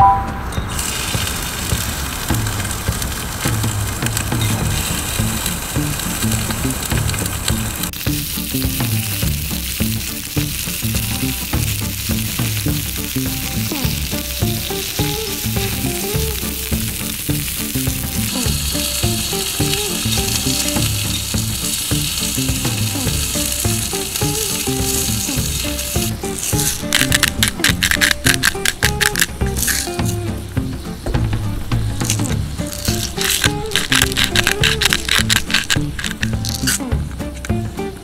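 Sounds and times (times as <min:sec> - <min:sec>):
background music: 0:00.0 - 0:38.0
meat sizzling in oil: 0:00.7 - 0:30.2, 0:32.0 - 0:36.8.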